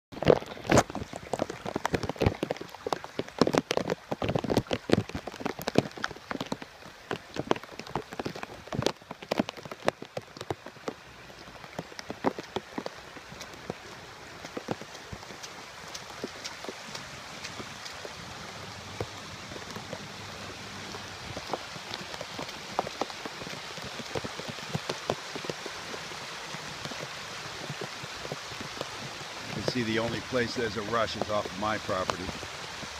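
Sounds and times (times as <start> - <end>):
heavy rain: 0.1 - 32.9
close raindrop taps: 0.2 - 32.9.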